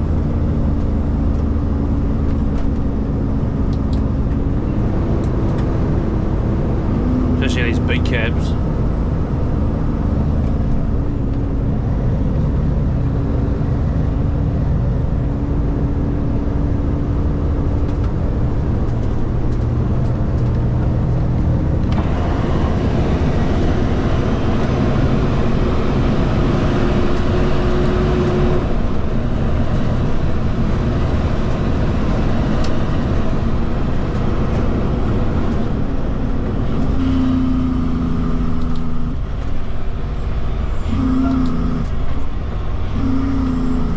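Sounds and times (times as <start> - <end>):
truck diesel engine running: 0.0 - 43.9
tyre and road noise: 0.0 - 43.9.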